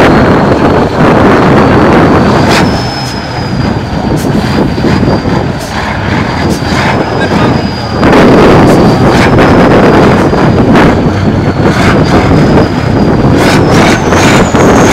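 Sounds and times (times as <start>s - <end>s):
high-pitched whine: 0.0s - 14.9s
truck diesel engine revving: 0.0s - 14.9s.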